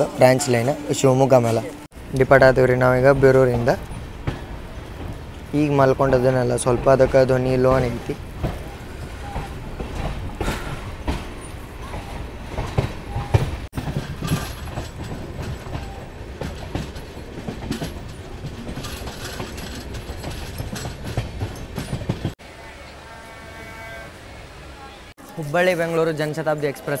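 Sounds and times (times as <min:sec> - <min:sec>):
wheels clattering over rail joints: 0:00.0 - 0:22.4
train wheels rumbling on track: 0:00.0 - 0:22.5.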